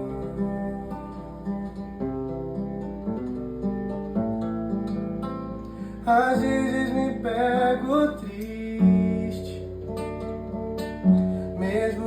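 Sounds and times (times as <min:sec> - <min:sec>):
acoustic guitar playing chords: 0:00.0 - 0:12.0.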